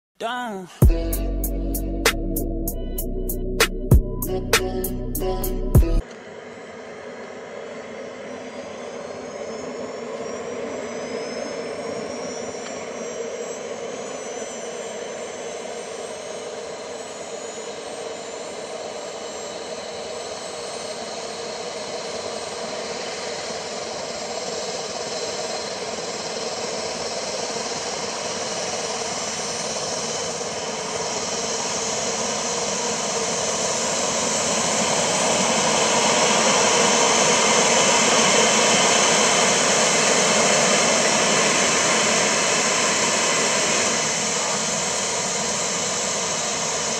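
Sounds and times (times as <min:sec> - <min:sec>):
miniature jet turbine starting up: 0:06.0 - 0:46.9.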